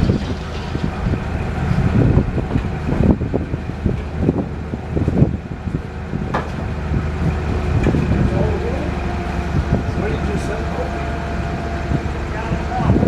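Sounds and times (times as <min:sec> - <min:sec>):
engine running: 0:00.0 - 0:13.0
low thumps and clatter: 0:00.0 - 0:13.0.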